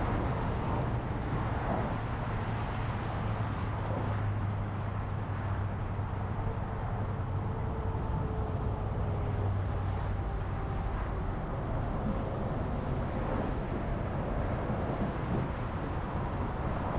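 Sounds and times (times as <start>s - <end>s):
road and engine rumble: 0.0s - 16.9s.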